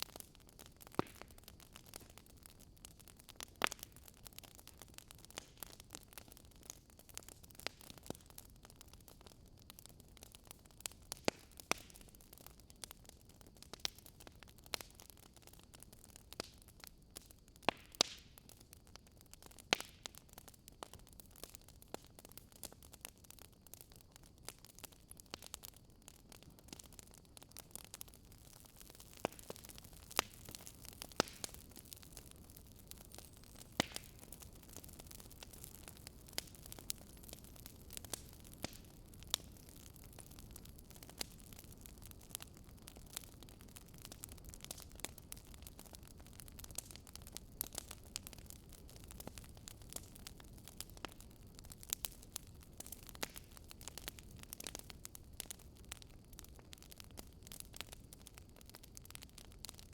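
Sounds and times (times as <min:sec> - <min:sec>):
fireplace crackling: 0:00.0 - 0:18.7, 0:19.3 - 0:59.8
faint steady hiss: 0:00.0 - 0:59.6.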